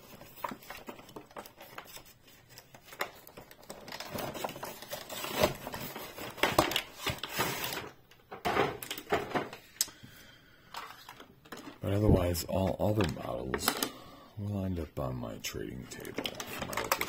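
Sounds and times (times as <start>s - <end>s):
packaging clicks and crinkling: 0.0s - 10.0s, 10.6s - 14.1s, 15.7s - 17.0s.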